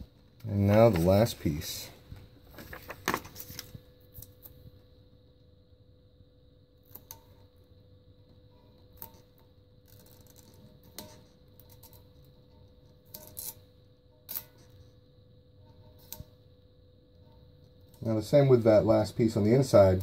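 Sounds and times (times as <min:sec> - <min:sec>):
steady faint hum: 0:00.0 - 0:20.0.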